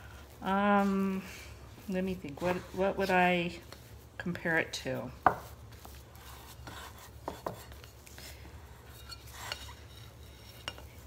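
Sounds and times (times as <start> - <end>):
spatula stirring stiff dough: 0.0 - 11.0.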